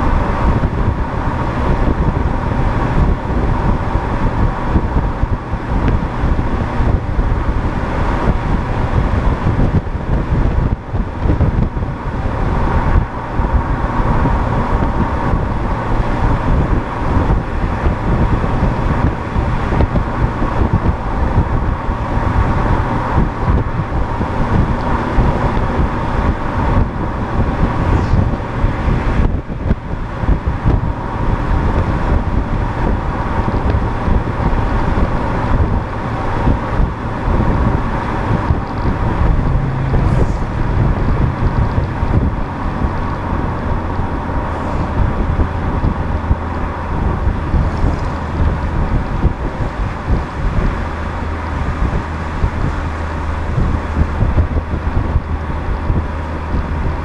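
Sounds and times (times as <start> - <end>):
road and tyre noise: 0.0 - 57.0
wind on microphone: 0.0 - 57.0.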